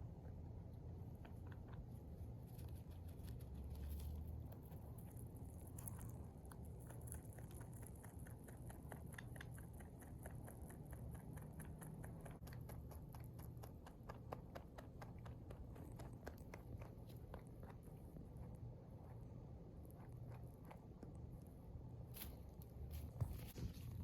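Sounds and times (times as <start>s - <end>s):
rabbit chewing hay: 0.0s - 24.0s
steady low hum: 0.0s - 24.0s.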